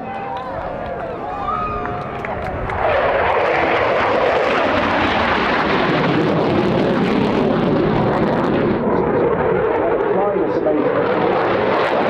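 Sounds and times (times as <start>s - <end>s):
fighter jet engines roaring: 0.0s - 12.0s.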